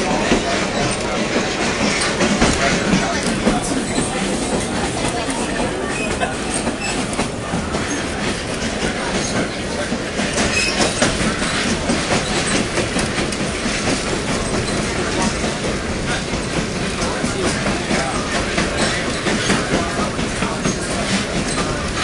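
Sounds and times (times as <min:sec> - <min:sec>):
clacking over rail joints: 0:00.0 - 0:22.0
train wheels rumbling on rail: 0:00.0 - 0:22.0.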